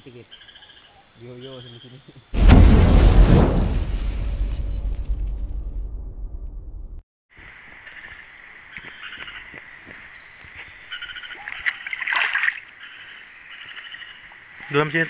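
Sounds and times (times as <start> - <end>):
insects chirping: 0.0 - 4.5, 7.4 - 15.0.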